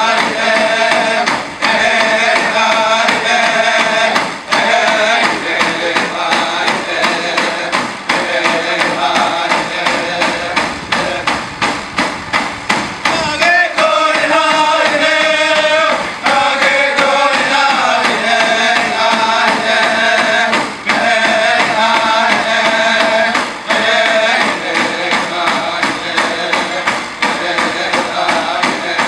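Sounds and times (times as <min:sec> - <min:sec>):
men singing in unison: 0:00.0 - 0:11.3, 0:13.1 - 0:29.0
frame drums beating: 0:00.0 - 0:29.0.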